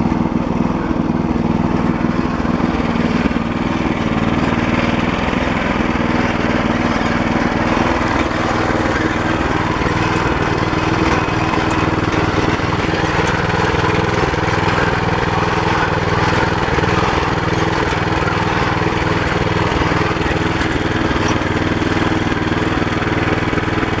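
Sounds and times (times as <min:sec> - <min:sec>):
tractor engine droning: 0:00.0 - 0:24.0.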